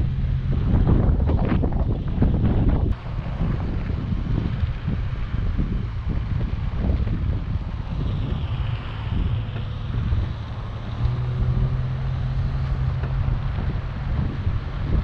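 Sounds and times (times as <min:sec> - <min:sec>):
engine and tyre rumble: 0:00.0 - 0:15.0
wind buffeting microphone: 0:00.0 - 0:15.0.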